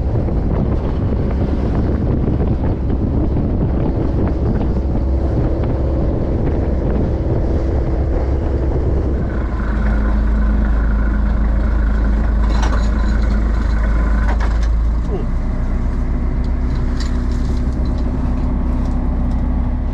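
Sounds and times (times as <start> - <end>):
diesel engine humming: 0.0 - 19.9
wind buffeting microphone: 0.0 - 19.9.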